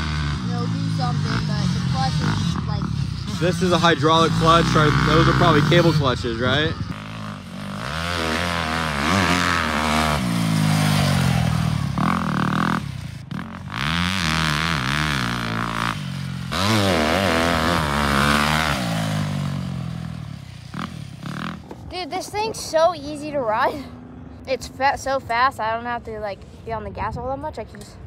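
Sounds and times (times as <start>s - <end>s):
motocross bike engines revving: 0.0s - 27.0s.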